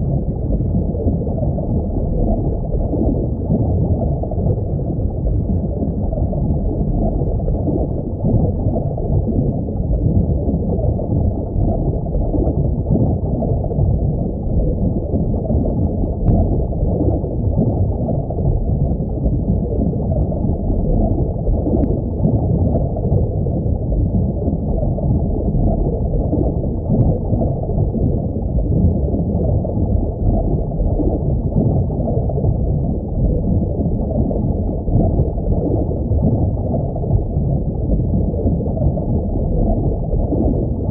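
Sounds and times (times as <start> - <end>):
underwater aquarium gurgle: 0.0 - 40.9.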